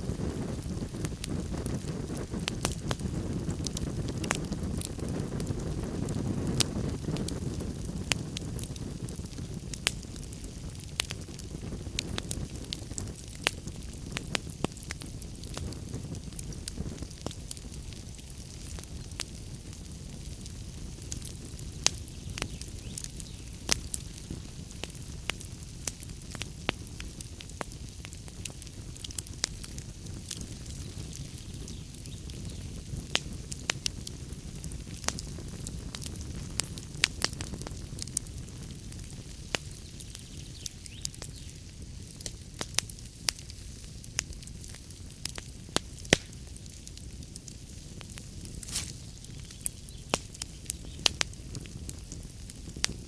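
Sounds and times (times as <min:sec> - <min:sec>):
fire flames rumbling: 0:00.0 - 0:53.0
logs crackling and popping: 0:00.0 - 0:53.0.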